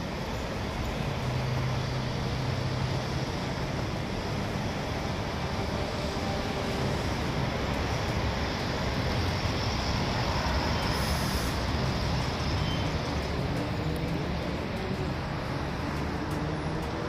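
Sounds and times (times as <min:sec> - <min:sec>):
road traffic hiss: 0:00.0 - 0:17.0.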